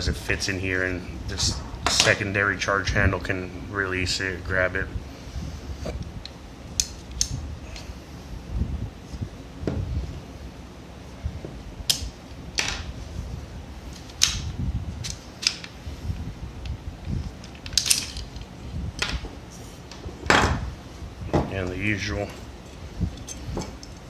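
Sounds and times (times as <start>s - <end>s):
low handling rumble: 0.0s - 24.0s.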